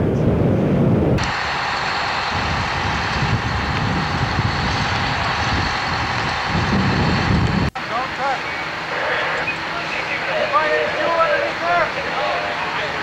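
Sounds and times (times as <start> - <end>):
engine running: 1.2 - 13.0.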